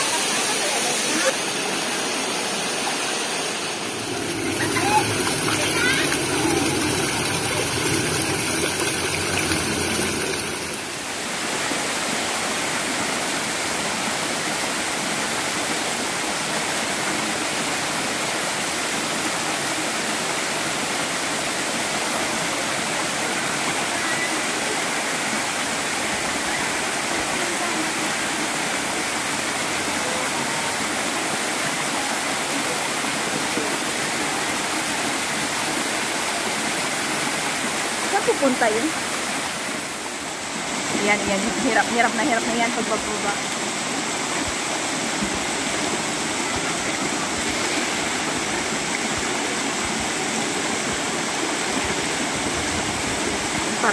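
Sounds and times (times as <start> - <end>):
waterfall over rocks: 0.0 - 53.9.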